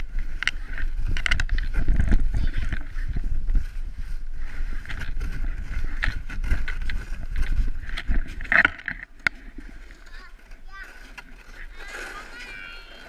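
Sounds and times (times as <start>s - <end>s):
plastic sled scraping over snow: 0.0s - 13.0s
wind buffeting microphone: 0.0s - 13.0s.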